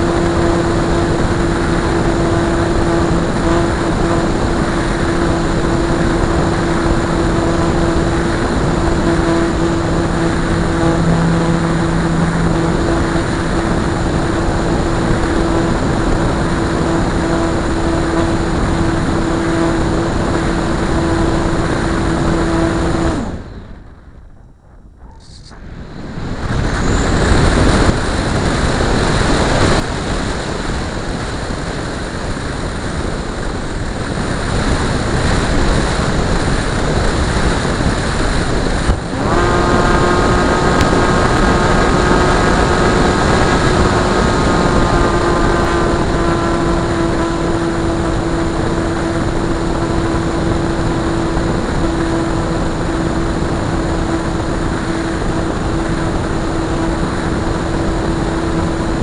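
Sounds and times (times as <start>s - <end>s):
model airplane motor droning: 0.0s - 23.8s, 25.0s - 59.0s
wind rush on microphone: 0.0s - 59.0s.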